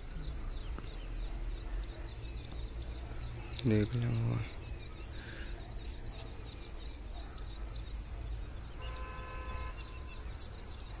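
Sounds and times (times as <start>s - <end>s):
bird chirps: 0.0s - 11.0s
insects droning: 0.0s - 11.0s.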